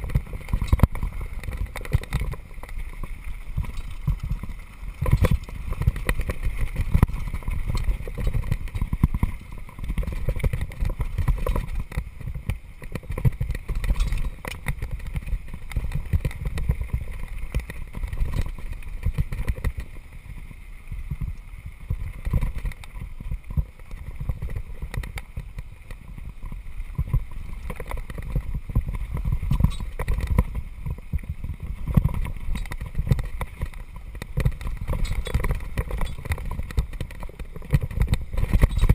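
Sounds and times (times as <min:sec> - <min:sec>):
bike rattling over bumps: 0:00.0 - 0:20.5, 0:21.1 - 0:38.9
bike tyres rumbling on gravel: 0:00.0 - 0:38.9.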